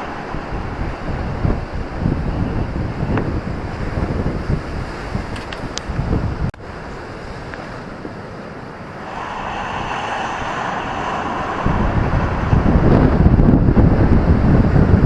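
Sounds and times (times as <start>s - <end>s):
ocean surf breaking: 0.0s - 4.1s, 6.6s - 15.0s
wind buffeting microphone: 0.0s - 15.0s.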